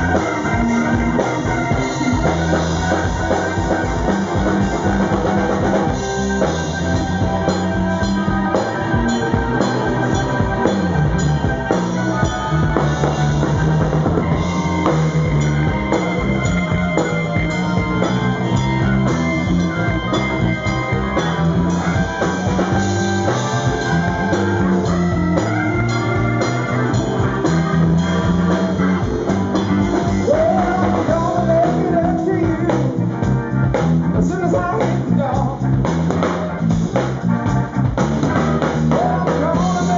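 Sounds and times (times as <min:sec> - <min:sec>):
drum kit: 0:00.0 - 0:39.9
electric guitar: 0:00.0 - 0:39.9
keyboard: 0:00.0 - 0:39.9.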